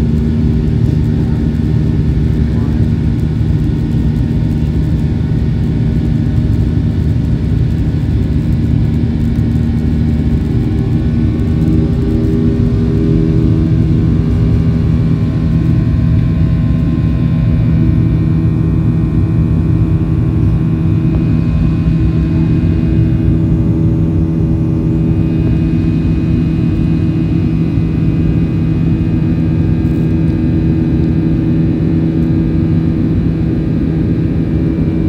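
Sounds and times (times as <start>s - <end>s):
jet engines rumbling: 0.0s - 35.0s
steady hums: 0.0s - 35.0s.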